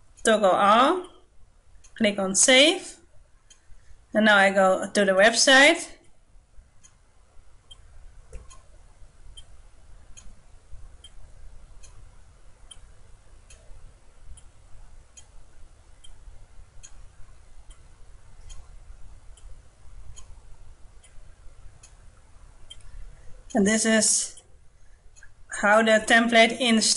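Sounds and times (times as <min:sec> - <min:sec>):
low room rumble: 0:00.0 - 0:26.9.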